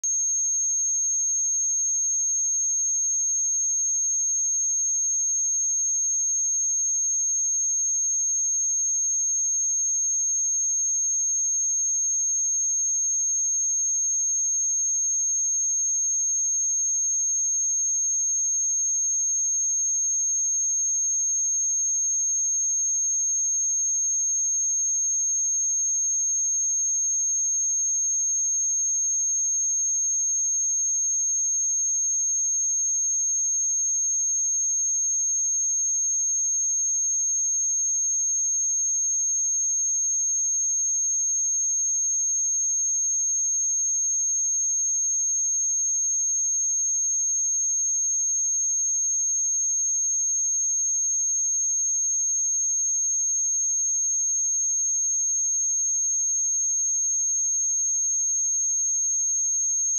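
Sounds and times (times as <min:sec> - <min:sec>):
high-pitched sine test tone: 0:00.0 - 0:59.9.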